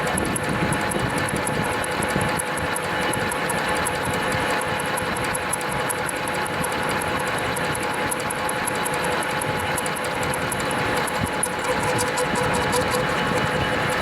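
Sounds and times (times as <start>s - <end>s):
fast even ticking: 0.0s - 14.0s
metal lathe humming: 0.0s - 14.0s.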